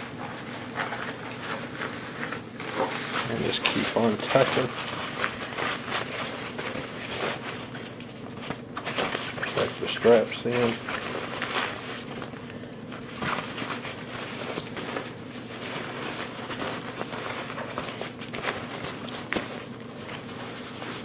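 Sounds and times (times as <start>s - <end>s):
nylon fabric rustling: 0.0s - 21.0s.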